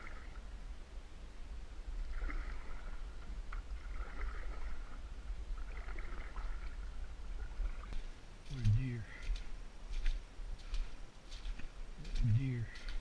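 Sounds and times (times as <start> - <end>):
canoe paddle strokes in water: 0.0 - 0.5, 1.9 - 13.0
low steady rumble: 0.0 - 13.0.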